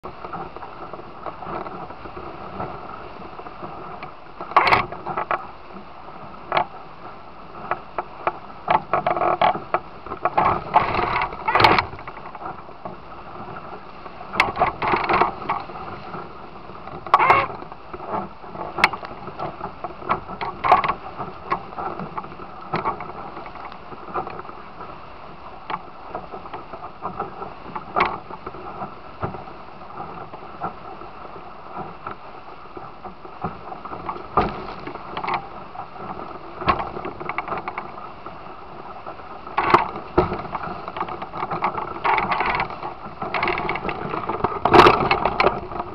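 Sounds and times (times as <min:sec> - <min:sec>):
hull slapping waves: 0:00.0 - 0:45.9
rush of water and wind: 0:00.0 - 0:45.9.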